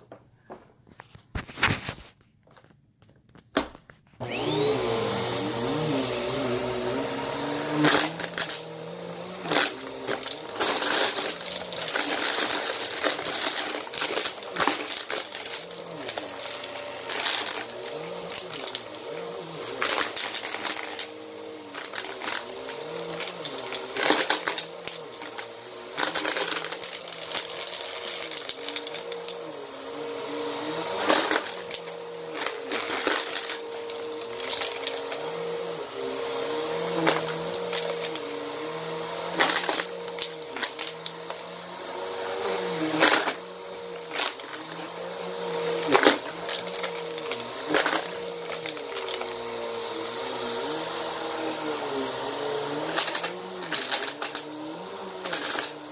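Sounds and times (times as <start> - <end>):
vacuum cleaner running: 4.2 - 55.9.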